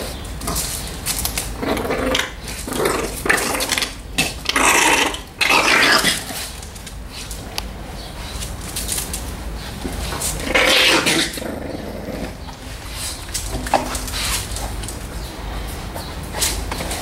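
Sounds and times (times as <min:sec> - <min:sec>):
dogs growling and yapping: 0:01.2 - 0:15.3.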